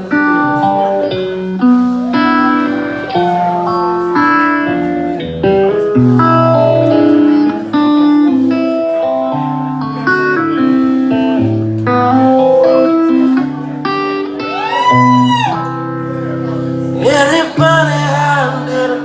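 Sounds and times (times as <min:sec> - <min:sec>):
country band playing: 0:00.0 - 0:19.0
sliding guitar melody: 0:00.0 - 0:19.0.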